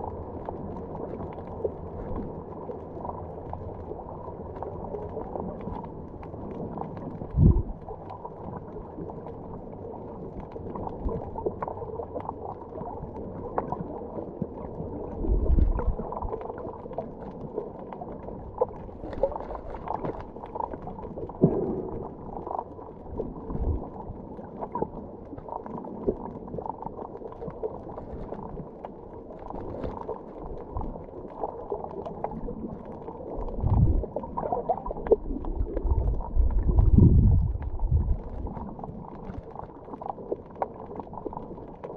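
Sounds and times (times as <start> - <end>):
small underwater clicks: 0.0 - 41.9
underwater moving water: 0.0 - 41.9.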